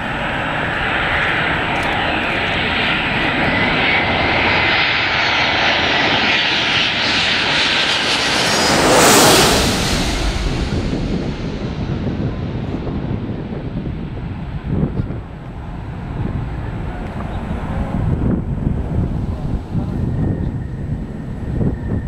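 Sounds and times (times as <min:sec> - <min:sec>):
airliner flying overhead: 0:00.0 - 0:22.0
faint gliding whine: 0:00.0 - 0:22.0.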